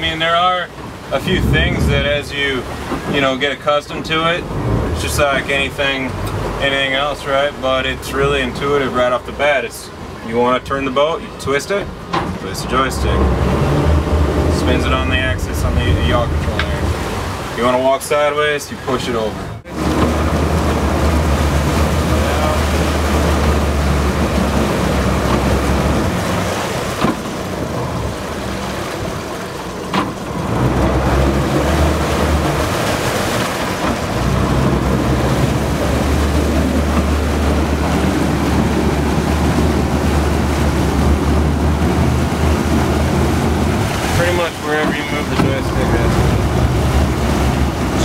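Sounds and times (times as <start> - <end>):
outboard motors droning: 0.0 - 48.0
propeller wash churning water: 0.0 - 48.0.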